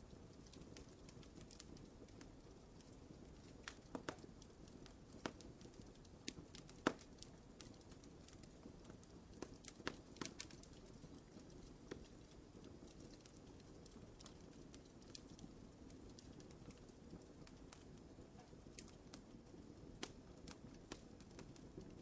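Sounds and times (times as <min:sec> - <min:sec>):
low rumble of flame: 0:00.0 - 0:22.0
wood fire crackling: 0:00.0 - 0:22.0.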